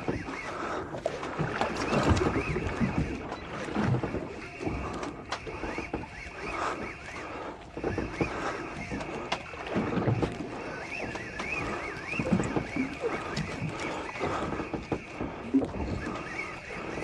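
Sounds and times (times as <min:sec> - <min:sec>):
high wavering whine: 0:00.0 - 0:17.0
water slapping a boat hull: 0:00.0 - 0:17.0.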